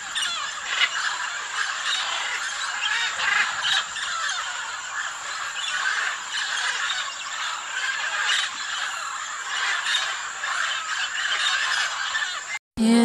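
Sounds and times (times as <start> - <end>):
macaws squawking: 0.0 - 12.6.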